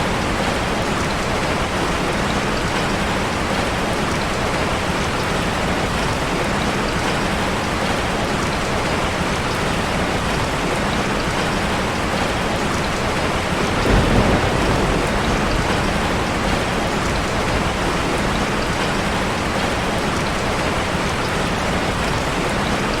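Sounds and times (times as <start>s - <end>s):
heavy rain drumming on a car: 0.0s - 23.0s.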